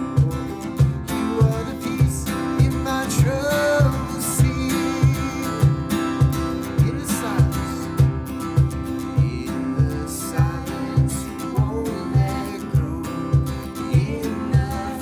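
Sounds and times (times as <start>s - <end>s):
strummed acoustic guitar: 0.0s - 15.0s
low drum thumps: 0.2s - 14.9s.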